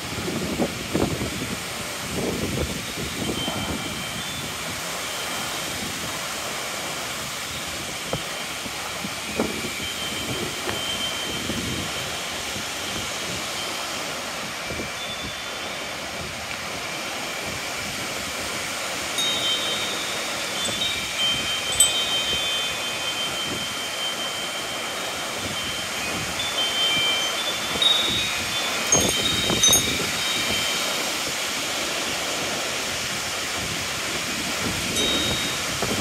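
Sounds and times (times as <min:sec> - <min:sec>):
wind buffeting microphone: 0:00.0 - 0:36.0
wind rushing through trees: 0:00.0 - 0:36.0.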